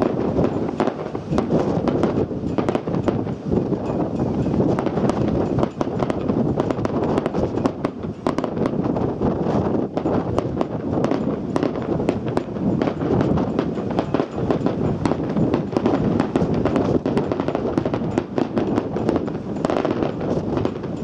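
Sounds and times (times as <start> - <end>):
fireworks crackling and banging: 0.0 - 21.0
wind on microphone: 0.0 - 21.0.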